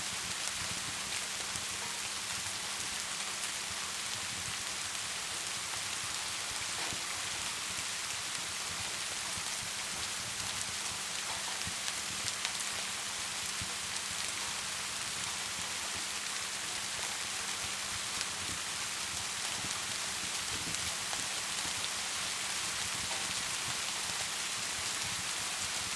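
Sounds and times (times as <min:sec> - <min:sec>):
rain falling: 0:00.0 - 0:25.9
fire crackling: 0:00.1 - 0:25.9.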